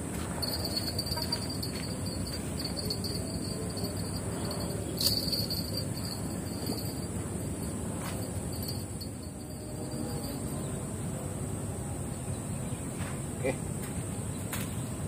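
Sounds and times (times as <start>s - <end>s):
low rush of wind or river: 0.0s - 12.7s
insect chorus trilling: 0.4s - 12.5s.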